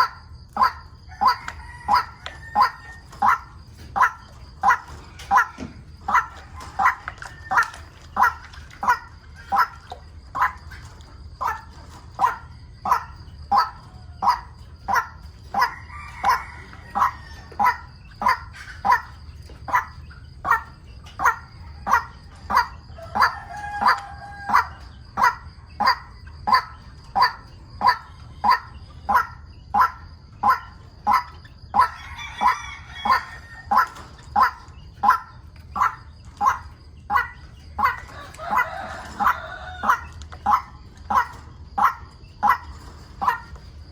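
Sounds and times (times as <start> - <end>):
waterhen calling: 0.0 - 43.9.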